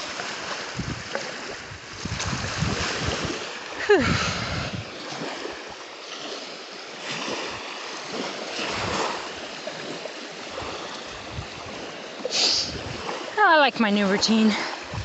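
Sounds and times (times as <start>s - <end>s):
small waves washing onto beach: 0.0s - 15.0s.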